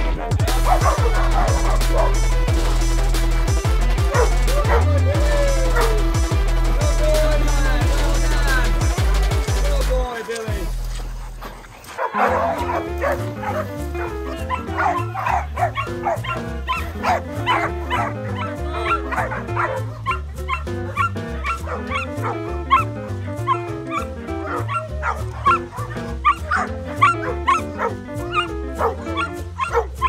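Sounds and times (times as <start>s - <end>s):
dogs barking and yipping: 0.0s - 6.9s, 10.8s - 30.0s
background music with beat: 0.0s - 11.5s, 12.2s - 30.0s.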